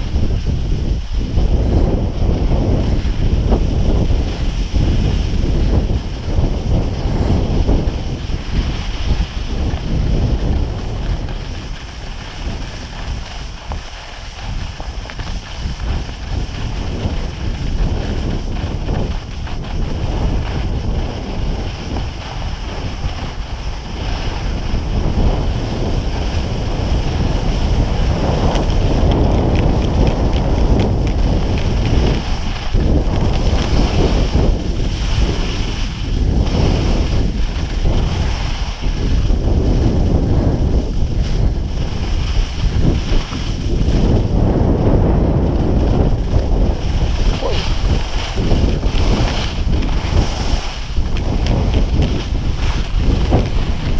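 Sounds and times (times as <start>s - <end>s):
skis sliding over snow: 0.0s - 53.9s
wind buffeting microphone: 0.0s - 53.9s.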